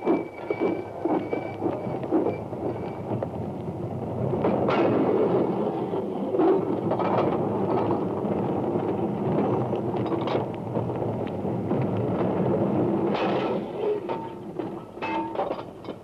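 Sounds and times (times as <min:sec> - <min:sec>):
wagon wheels rumbling on track: 0:00.0 - 0:16.0.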